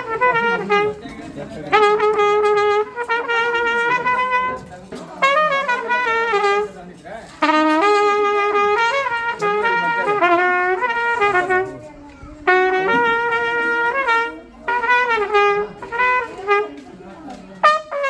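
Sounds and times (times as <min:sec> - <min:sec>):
horn playing melody: 0:00.0 - 0:18.0.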